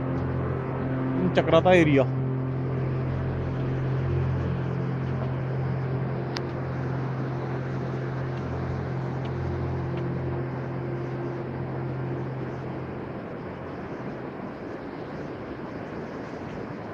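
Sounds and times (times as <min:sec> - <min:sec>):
low engine hum: 0:00.0 - 0:16.9
river rushing: 0:00.0 - 0:16.9.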